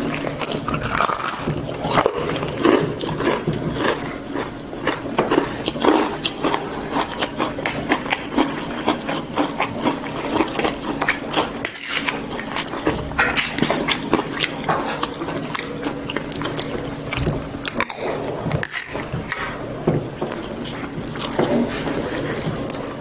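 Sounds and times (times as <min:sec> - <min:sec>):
chewing crunchy fried food: 0:00.0 - 0:23.0.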